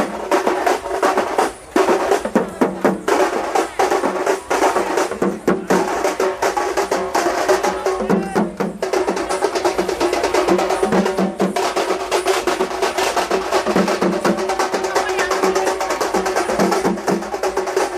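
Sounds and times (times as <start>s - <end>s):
fast live drumming: 0.0s - 17.9s.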